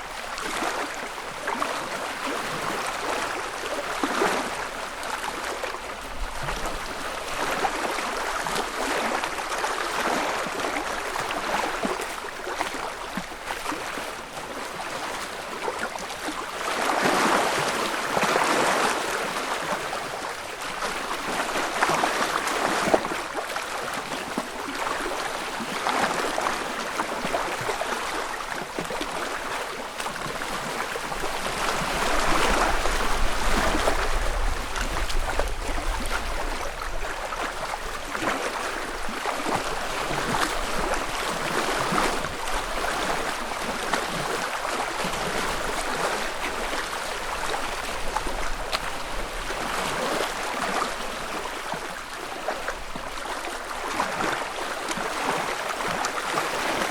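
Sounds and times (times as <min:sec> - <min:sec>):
waves lapping against shore: 0:00.0 - 0:56.9.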